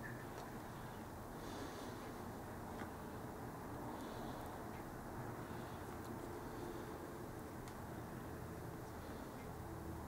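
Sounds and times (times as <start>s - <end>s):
room tone hum: 0.0s - 10.0s.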